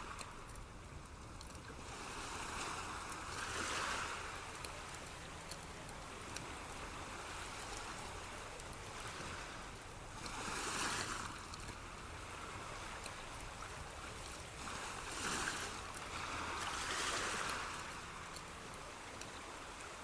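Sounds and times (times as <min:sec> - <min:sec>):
ocean waves washing in: 0:00.0 - 0:20.0.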